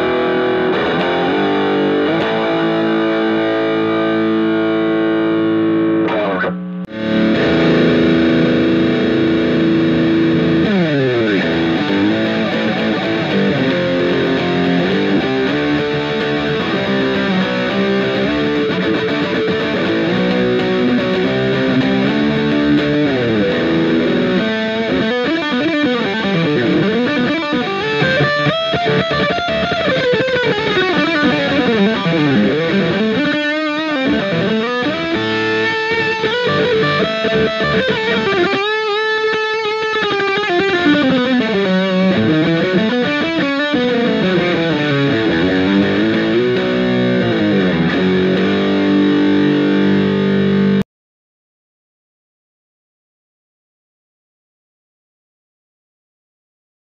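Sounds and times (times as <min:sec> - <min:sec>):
electric guitar playing: 0:00.0 - 0:50.8.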